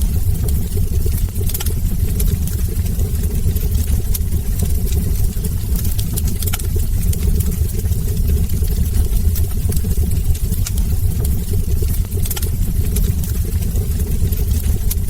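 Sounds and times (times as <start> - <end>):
fire low rumble: 0.0 - 15.0
wood fire crackling and popping: 0.0 - 15.0.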